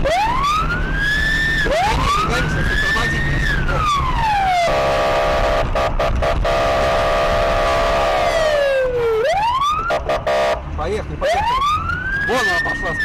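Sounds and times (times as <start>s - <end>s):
low car rumble: 0.0s - 13.0s
police siren wailing: 0.0s - 13.0s.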